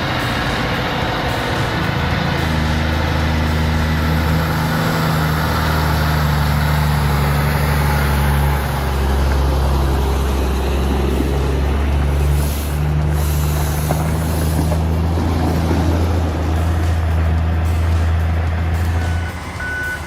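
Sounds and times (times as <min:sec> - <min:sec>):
truck engine droning: 0:00.0 - 0:20.0.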